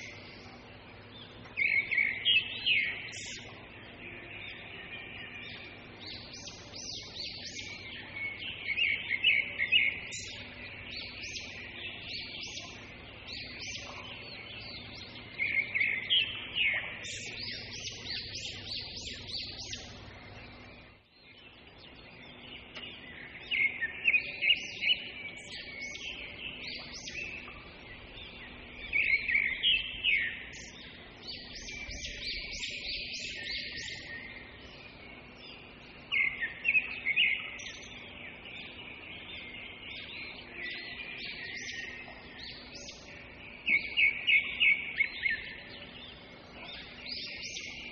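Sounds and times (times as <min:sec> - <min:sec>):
faint background hum: 0:00.0 - 0:47.9
small birds chirping: 0:00.0 - 0:47.9.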